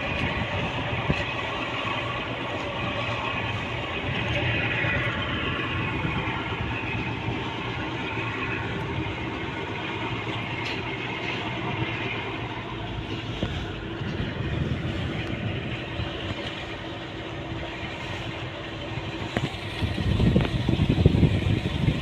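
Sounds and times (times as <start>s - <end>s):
tugboat diesel engine running: 0.0s - 22.0s.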